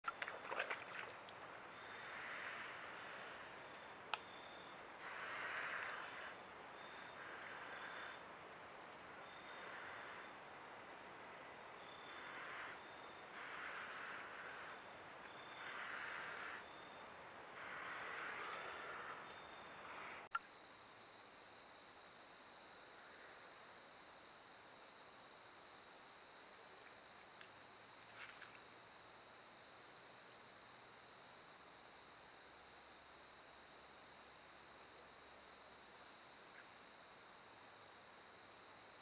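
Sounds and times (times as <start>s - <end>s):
crickets trilling: 0.1s - 31.3s.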